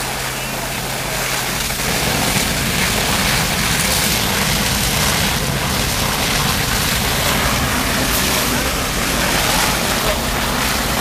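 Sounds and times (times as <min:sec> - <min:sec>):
fire engine pumps rumbling: 0:00.0 - 0:11.0
hose streams spraying: 0:00.0 - 0:11.0.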